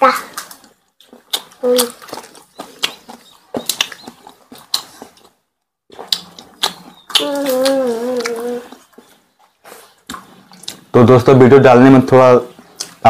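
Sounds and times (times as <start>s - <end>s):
mouths chewing: 0.2s - 11.0s, 12.5s - 13.0s.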